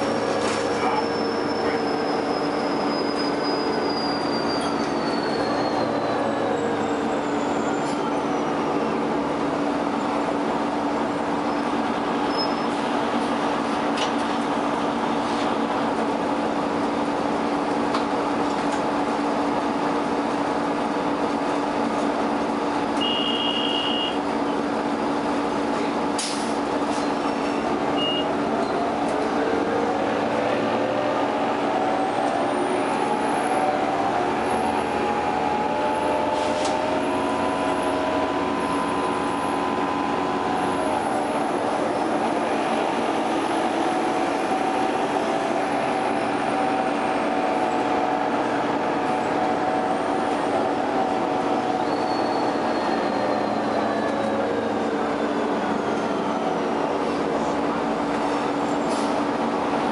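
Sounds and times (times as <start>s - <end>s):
bus engine and transmission whine: 0.0s - 59.9s.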